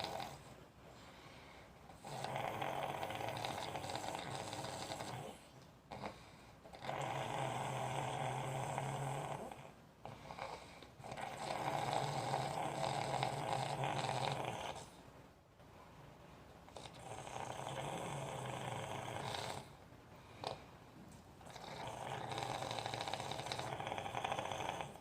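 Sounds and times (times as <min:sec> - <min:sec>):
person snoring: 0:00.0 - 0:00.5, 0:01.9 - 0:14.9, 0:16.8 - 0:19.8, 0:21.4 - 0:25.0
quiet breaths: 0:00.0 - 0:25.0.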